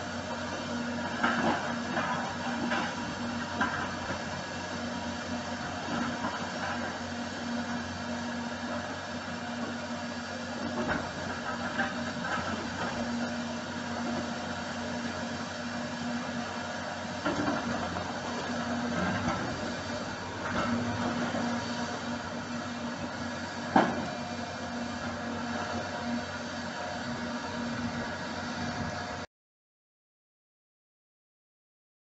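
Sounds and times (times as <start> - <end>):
diesel engine running: 0.0 - 29.3.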